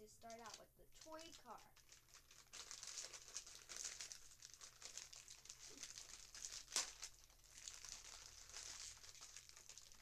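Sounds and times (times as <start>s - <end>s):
crinkly packaging crackling: 0.0s - 10.0s.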